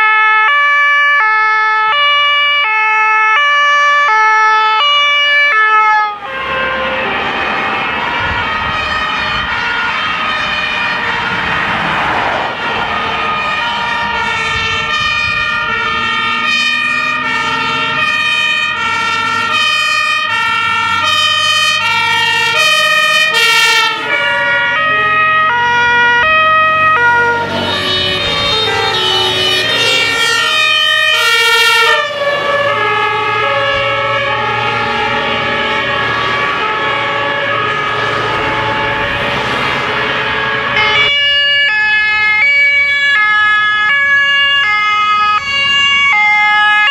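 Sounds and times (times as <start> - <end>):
two-tone fire engine sirens: 0.0 - 46.9.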